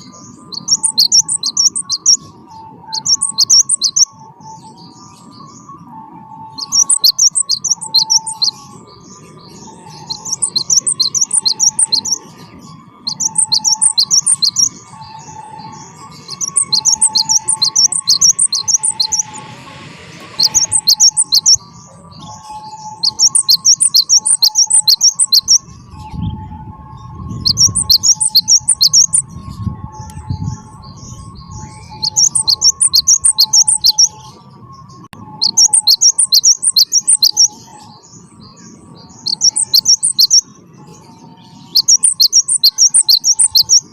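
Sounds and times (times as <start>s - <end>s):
low two-note bird warbling: 0.0s - 34.4s, 35.0s - 38.0s, 39.2s - 40.4s, 41.2s - 43.9s
bird chattering song: 0.0s - 43.9s.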